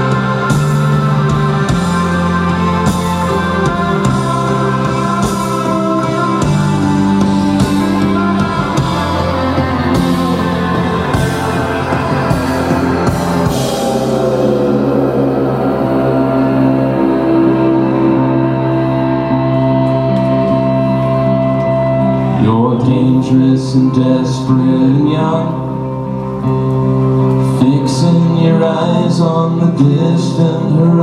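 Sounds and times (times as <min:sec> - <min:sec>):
rock band playing: 0:00.0 - 0:29.4.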